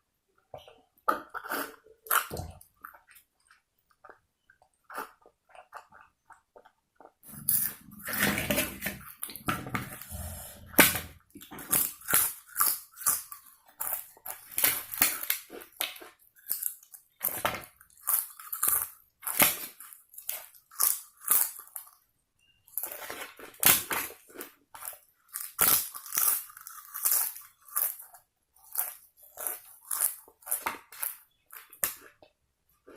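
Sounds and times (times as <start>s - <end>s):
person chewing food: 0.4s - 22.0s, 22.7s - 32.9s.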